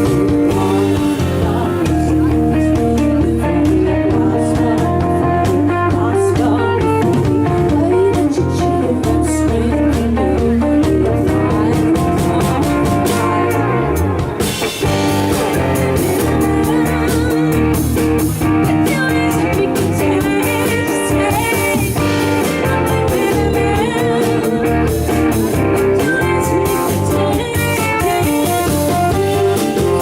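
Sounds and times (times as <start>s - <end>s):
live blues-rock band: 0.0s - 30.0s.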